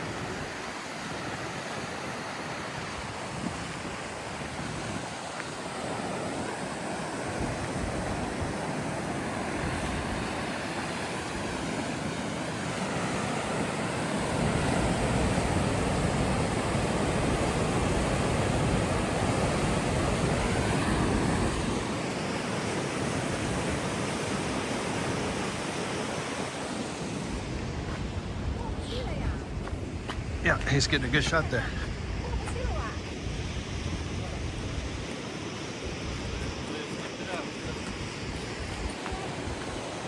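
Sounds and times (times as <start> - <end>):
waterfall and river roar: 0.0 - 40.0
wind buffeting microphone: 0.0 - 40.0.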